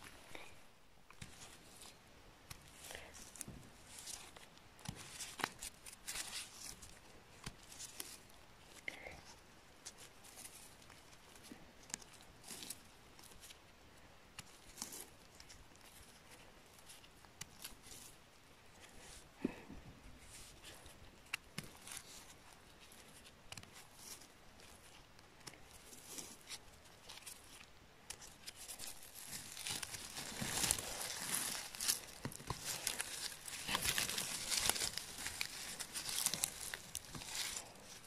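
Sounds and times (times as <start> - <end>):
rustling of moss: 0.0 - 38.0.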